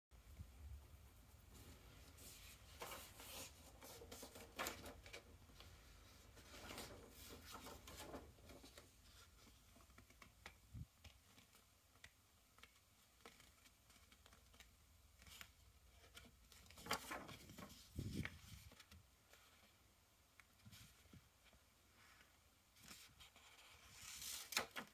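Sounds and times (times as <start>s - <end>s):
paper rustling: 1.5s - 19.8s, 20.4s - 24.9s.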